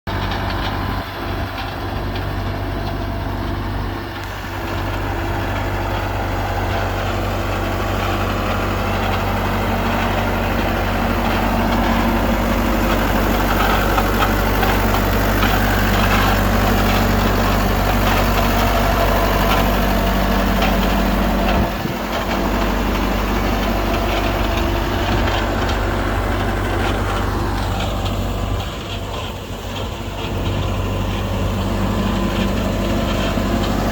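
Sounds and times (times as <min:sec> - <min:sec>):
skid steer loader engine running: 0:00.1 - 0:33.9.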